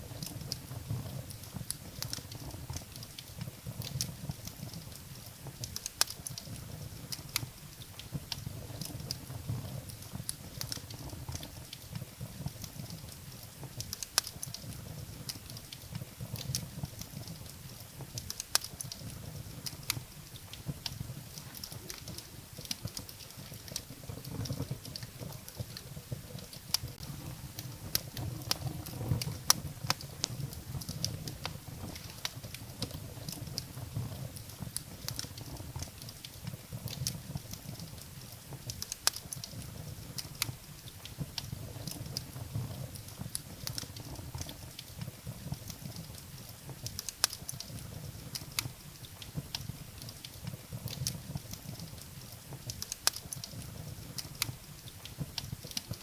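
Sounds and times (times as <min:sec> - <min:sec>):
firewood crackling and popping: 0:00.0 - 0:56.0
low rumble of flames: 0:00.0 - 0:56.0.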